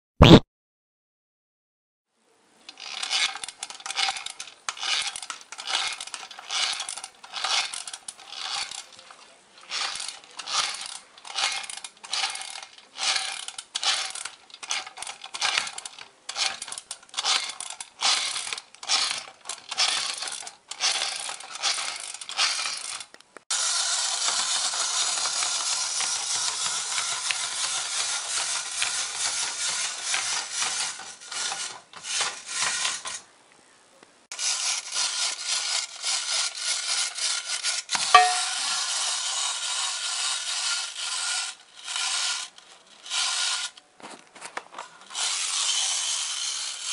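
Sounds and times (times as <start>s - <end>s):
clockwork toy clattering: 2.7s - 23.1s, 23.9s - 33.2s, 34.4s - 43.8s, 44.6s - 46.9s
toy motor whirring: 2.7s - 33.2s, 34.3s - 43.8s, 44.7s - 46.9s.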